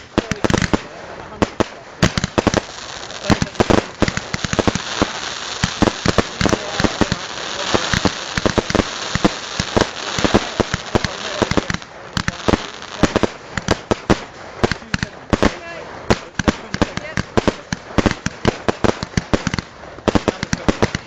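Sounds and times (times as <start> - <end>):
fireworks bangs: 0.0 - 21.0
fireworks crackling hiss: 0.0 - 21.0.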